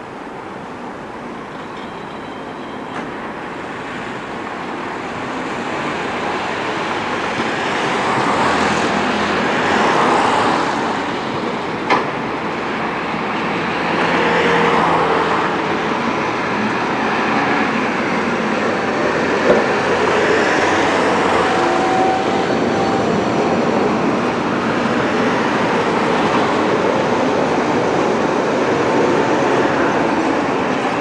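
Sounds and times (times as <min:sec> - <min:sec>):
tram running on rails: 0:00.0 - 0:31.0.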